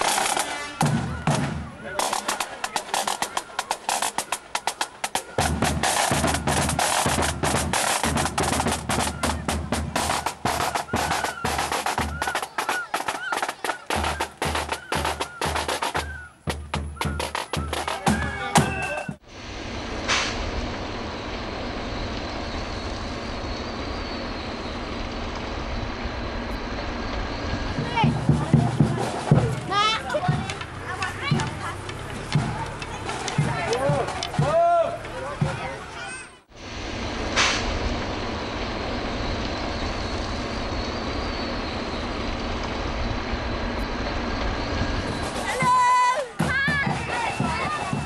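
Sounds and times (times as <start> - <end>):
diesel engine rumbling: 0.0 - 48.0
excavator machine noise: 0.0 - 48.0.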